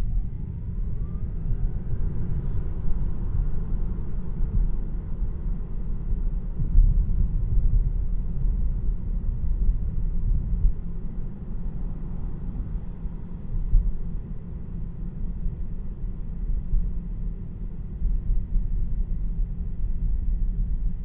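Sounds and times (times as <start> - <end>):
road and tyre rumble in car: 0.0 - 21.0.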